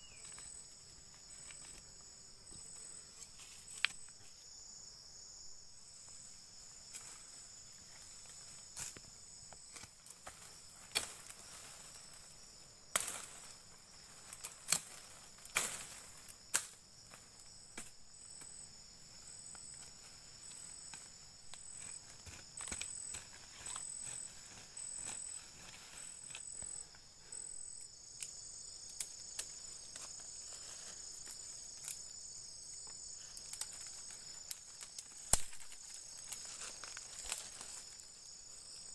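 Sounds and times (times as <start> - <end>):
insect pulsing call: 0.0 - 38.9
insects trilling: 0.0 - 38.9.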